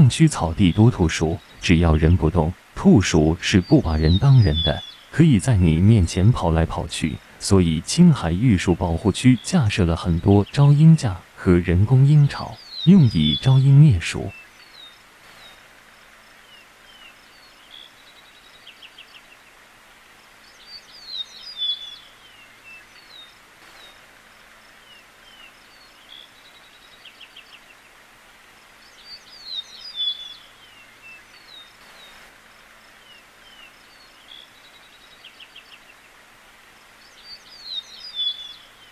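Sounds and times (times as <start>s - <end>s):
faint outdoor hiss: 0.0s - 38.9s
small songbirds chirping: 0.0s - 38.9s.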